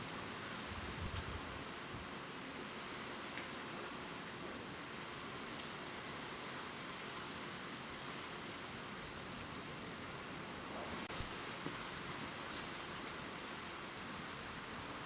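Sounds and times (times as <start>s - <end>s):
rain on leaves: 0.0s - 15.0s.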